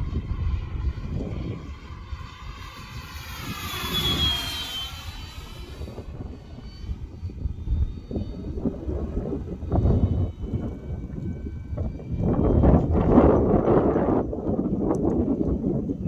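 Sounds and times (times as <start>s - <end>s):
model plane motor whine: 0.0s - 16.0s
wind rumbling on microphone: 0.0s - 16.0s.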